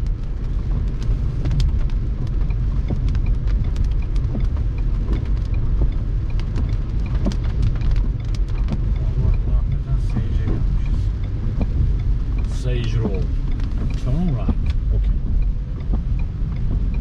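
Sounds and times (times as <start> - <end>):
raindrops clicking on car: 0.0 - 17.0
wind rumble on microphone: 0.0 - 17.0.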